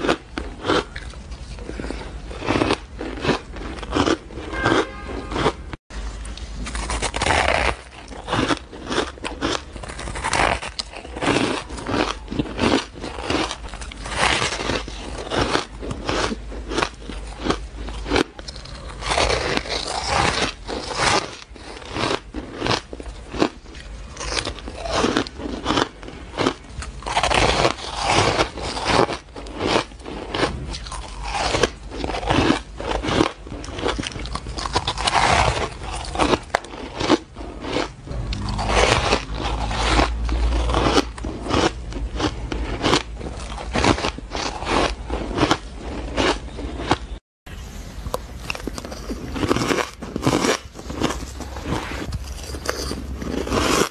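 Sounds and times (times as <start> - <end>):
ice being bitten and chewed: 0.0 - 47.2, 48.0 - 53.9.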